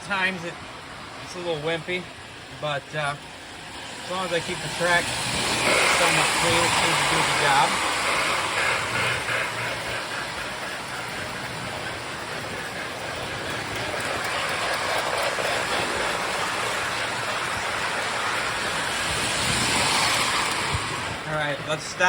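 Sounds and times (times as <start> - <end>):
toy train rumbling on metal track: 0.0 - 22.0.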